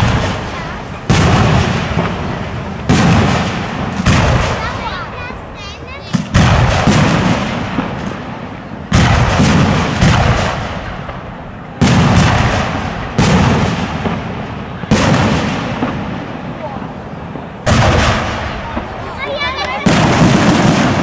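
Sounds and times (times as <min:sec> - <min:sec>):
firework shells booming: 0:00.0 - 0:21.0.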